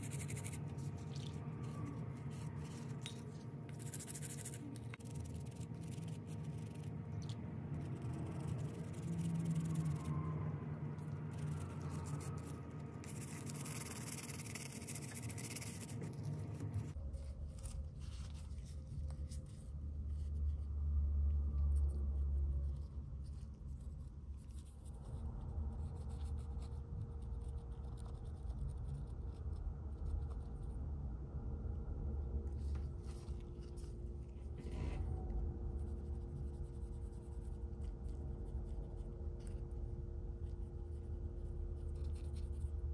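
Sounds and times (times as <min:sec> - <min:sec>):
low hum: 0:00.0 - 0:42.9.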